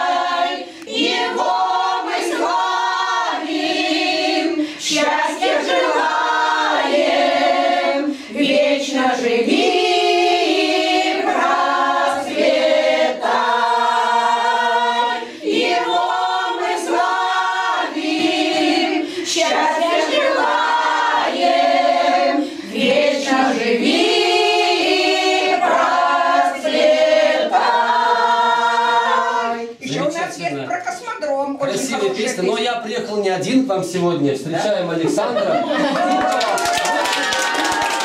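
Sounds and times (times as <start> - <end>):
women's choir singing: 0.0 - 29.8, 35.7 - 38.0.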